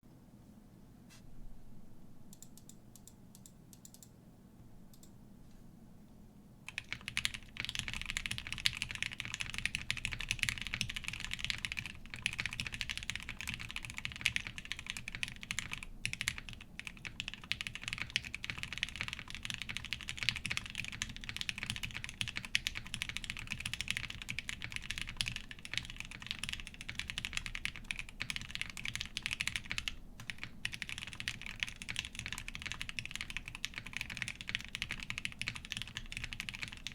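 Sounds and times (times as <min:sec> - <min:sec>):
mechanical keyboard typing: 0:06.7 - 0:36.9.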